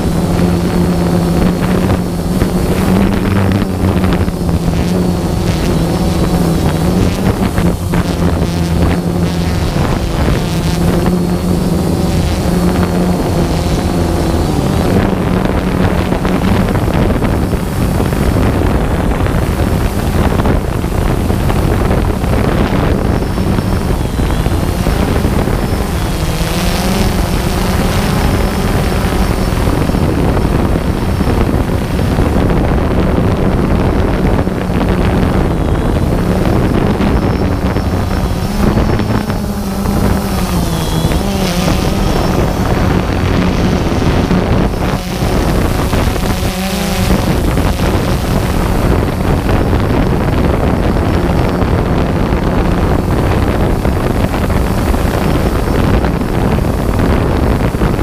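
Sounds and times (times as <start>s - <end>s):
drone propellers humming: 0.0s - 58.0s
wind buffeting microphone: 0.0s - 58.0s.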